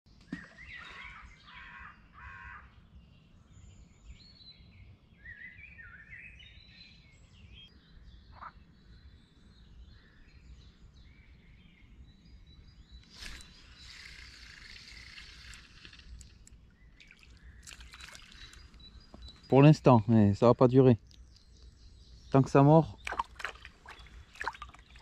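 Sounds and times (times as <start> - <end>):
birds singing whistled phrases: 3.9 - 25.0.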